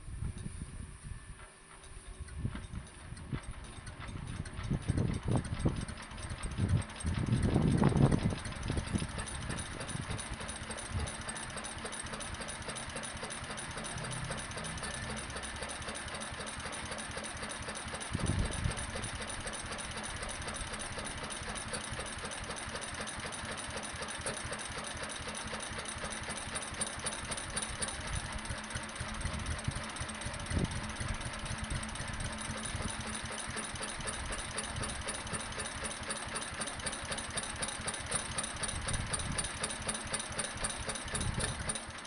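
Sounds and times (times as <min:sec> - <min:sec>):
stationary engine running: 0:01.7 - 0:42.0.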